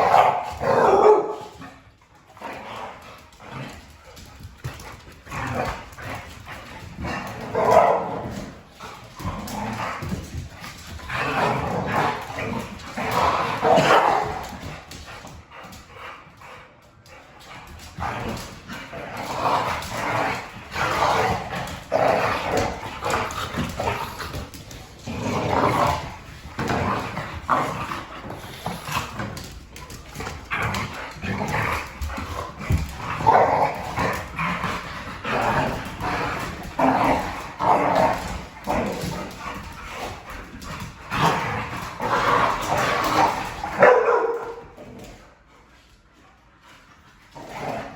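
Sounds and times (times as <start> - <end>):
dogs barking and whining: 0.0 - 2.4, 3.7 - 16.8, 17.6 - 45.2.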